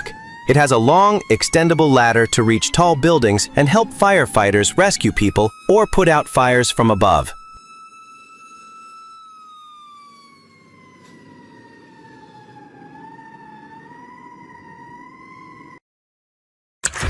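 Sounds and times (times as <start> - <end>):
fire truck siren wailing: 0.0 - 15.8.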